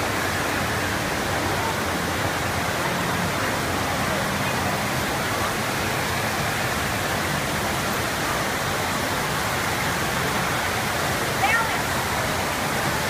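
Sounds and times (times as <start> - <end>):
water rushing up a slope: 0.0 - 13.0.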